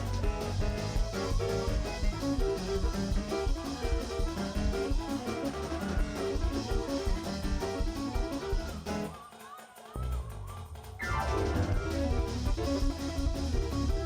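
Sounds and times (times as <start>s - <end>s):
bass: 0.0s - 9.1s, 10.0s - 14.0s
church band music: 0.0s - 9.1s, 11.0s - 14.0s
steady beat: 0.0s - 9.1s, 11.0s - 14.0s
guitar: 0.0s - 14.0s.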